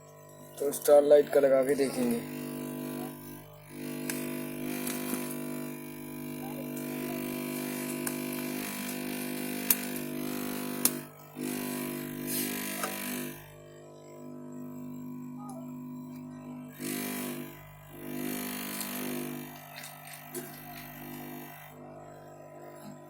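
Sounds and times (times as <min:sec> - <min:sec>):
equipment humming: 0:00.0 - 0:23.0.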